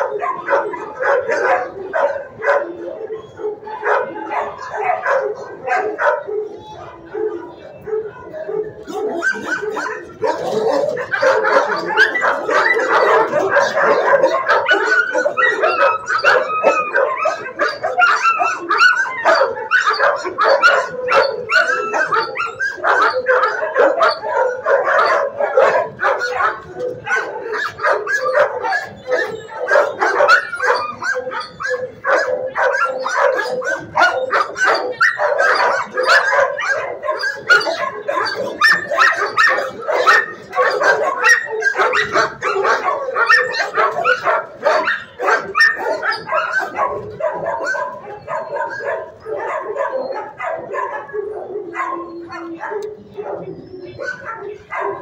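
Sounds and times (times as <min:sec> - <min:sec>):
many dogs barking: 0:00.0 - 0:55.0.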